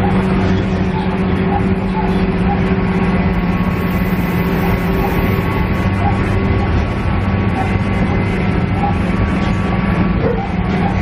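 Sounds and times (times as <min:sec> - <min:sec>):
diesel engine drone: 0:00.0 - 0:11.0
wheel and rail rumble: 0:00.0 - 0:11.0.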